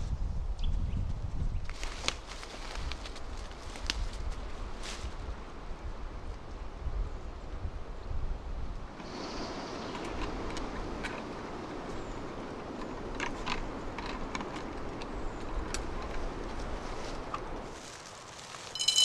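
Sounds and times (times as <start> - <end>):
wind rumble on microphone: 0.0 - 17.8.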